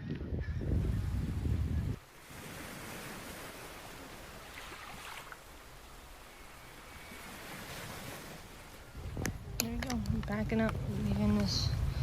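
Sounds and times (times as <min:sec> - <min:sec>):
wind: 0:00.0 - 0:12.0
waves washing: 0:02.0 - 0:12.0.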